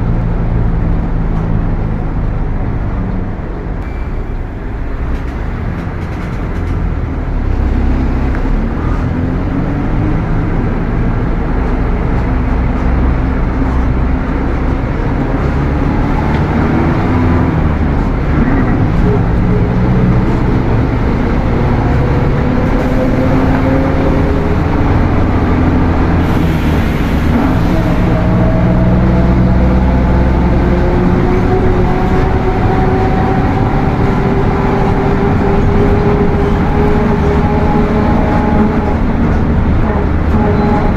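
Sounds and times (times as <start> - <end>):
bus diesel engine pulling: 0.0 - 40.9.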